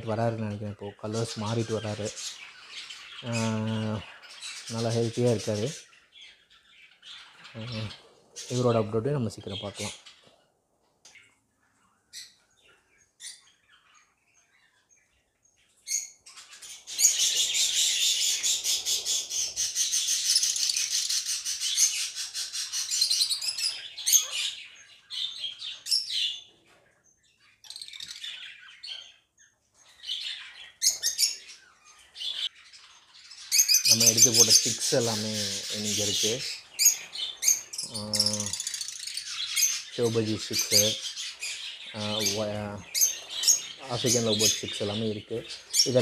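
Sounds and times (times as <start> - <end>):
small parrots chirping and chattering: 0.0 - 46.0.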